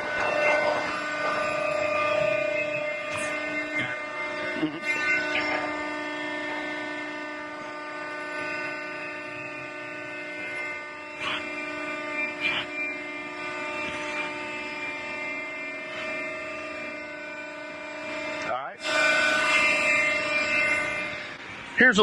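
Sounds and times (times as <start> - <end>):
hydraulic machine humming: 0.0 - 22.0.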